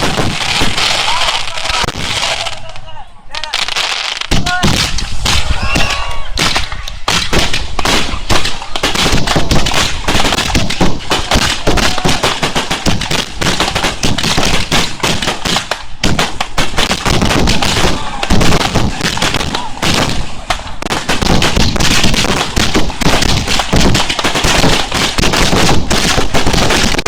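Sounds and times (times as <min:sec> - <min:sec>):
fireworks bangs in a rapid barrage: 0:00.0 - 0:27.0.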